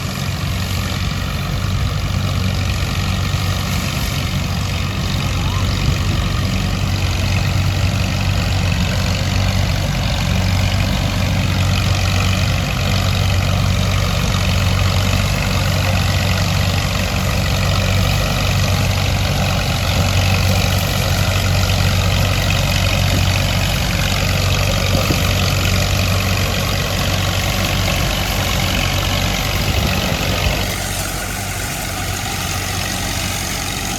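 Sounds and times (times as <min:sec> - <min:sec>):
harvesting machine engine drone: 0:00.0 - 0:33.9.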